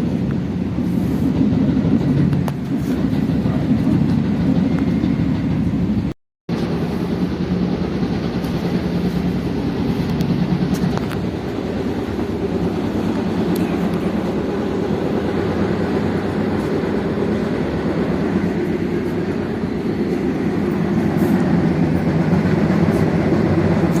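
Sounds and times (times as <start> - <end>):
train rumbling from inside car: 0.0 - 24.0.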